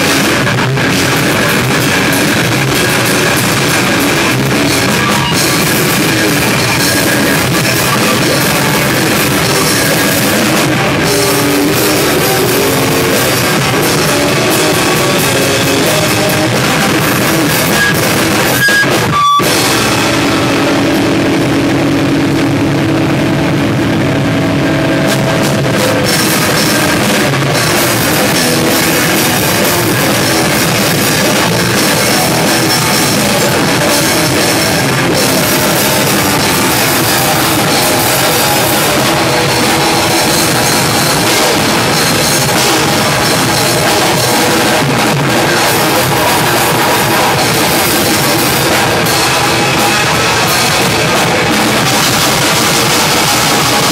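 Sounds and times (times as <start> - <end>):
distorted electric guitar: 0.0 - 53.9
heavy rock band playing: 0.0 - 53.9.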